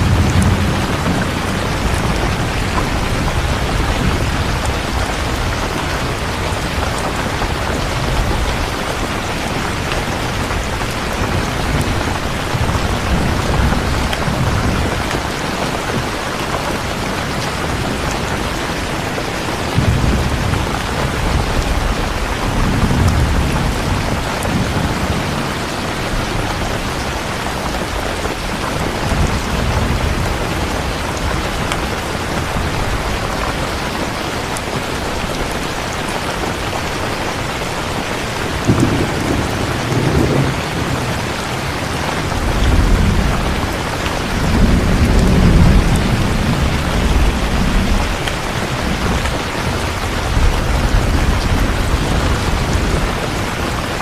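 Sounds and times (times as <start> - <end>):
rolling thunder: 0.0 - 34.0, 37.9 - 54.0
heavy rain: 0.0 - 54.0.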